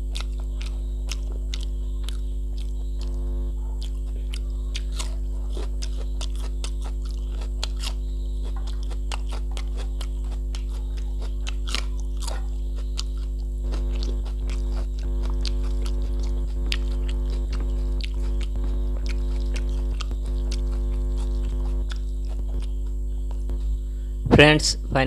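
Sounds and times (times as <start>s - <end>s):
crunch of biting a chilli: 0.0s - 23.8s
person chewing food: 0.0s - 23.8s
electrical mains hum: 0.0s - 25.0s.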